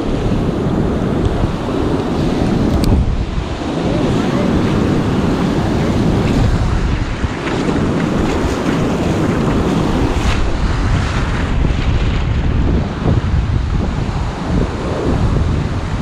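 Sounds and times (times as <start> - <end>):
ocean surf washing on beach: 0.0 - 16.0
wind buffeting microphone: 0.0 - 16.0.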